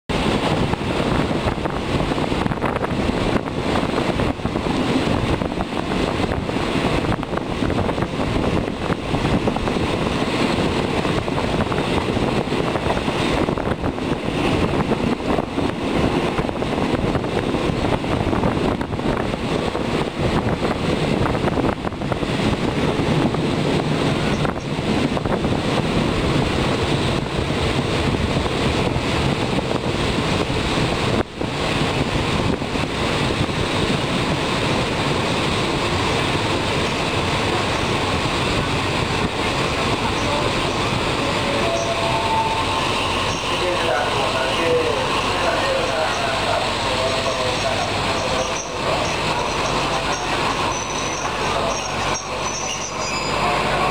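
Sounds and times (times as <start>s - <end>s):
train wheel and rail noise: 0.1s - 53.9s
wind buffeting microphone: 0.1s - 53.9s.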